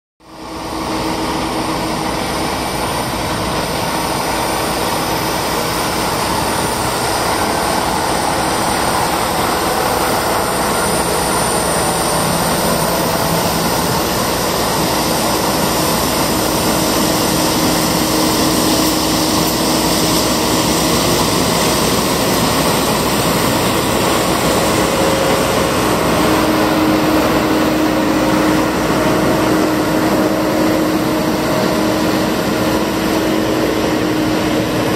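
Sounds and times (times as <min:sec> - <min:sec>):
heavy diesel machinery din: 0:00.2 - 0:34.9.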